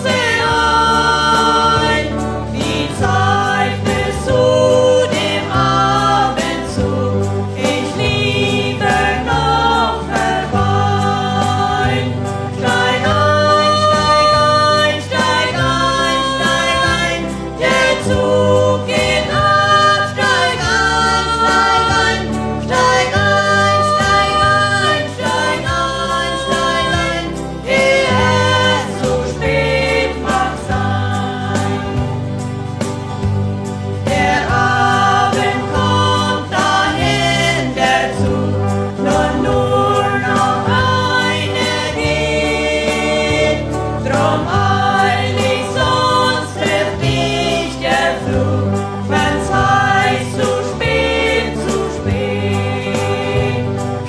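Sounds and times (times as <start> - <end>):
two people singing a song: 0.0 - 32.6, 33.8 - 54.0.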